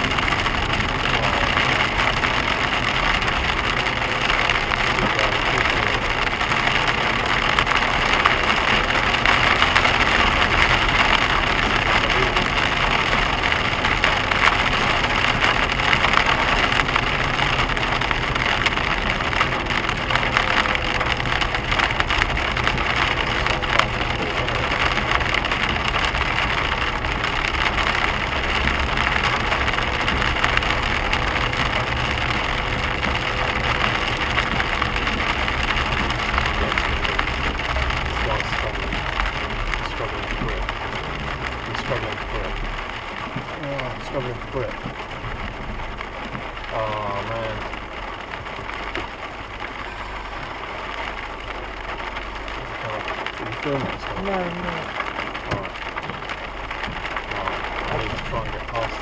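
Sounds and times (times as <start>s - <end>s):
hail drumming on car roof: 0.0s - 59.0s
low car rumble: 0.0s - 59.0s.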